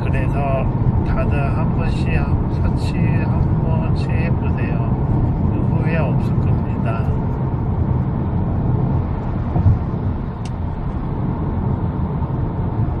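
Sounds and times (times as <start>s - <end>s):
car engine and exhaust rumble: 0.0s - 13.0s
road noise: 0.0s - 13.0s.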